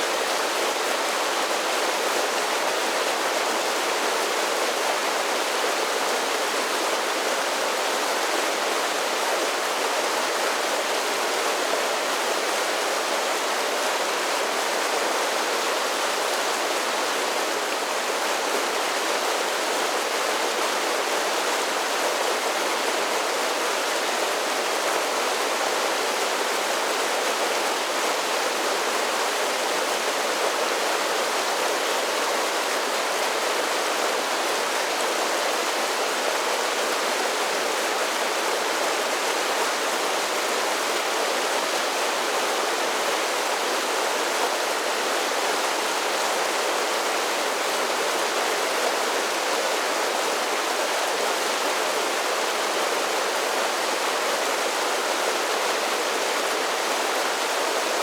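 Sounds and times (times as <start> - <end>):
creek water rushing over falls: 0.0 - 58.0.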